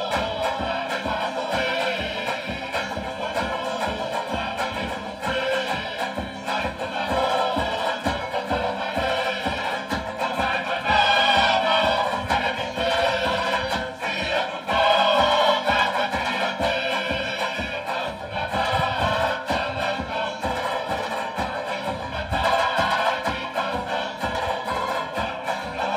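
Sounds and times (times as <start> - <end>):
drum beat: 0.0 - 25.9
group singing: 0.0 - 25.9
strummed guitars: 0.0 - 25.9.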